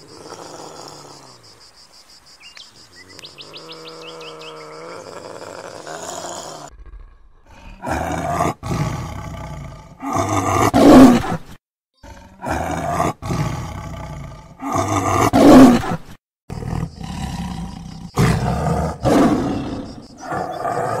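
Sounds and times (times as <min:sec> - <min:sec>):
tiger roaring: 0:03.2 - 0:11.4, 0:12.0 - 0:21.0.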